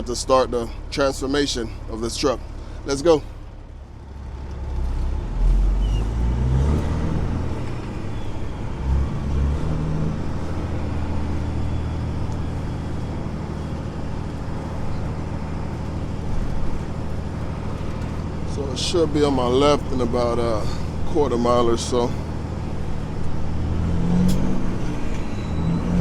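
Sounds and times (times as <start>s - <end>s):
diesel truck engine pulling away: 0.0s - 26.0s.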